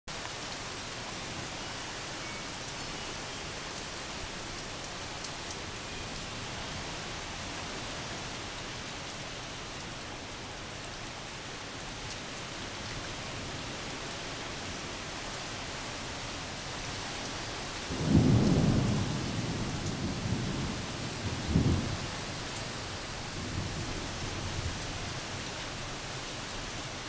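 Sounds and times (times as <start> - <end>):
rain falling on pool and patio: 0.1 - 27.0.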